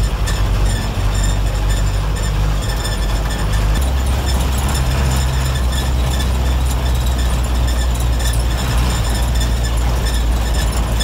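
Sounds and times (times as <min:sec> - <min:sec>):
bus engine running: 0:00.0 - 0:11.0
road noise: 0:00.0 - 0:11.0.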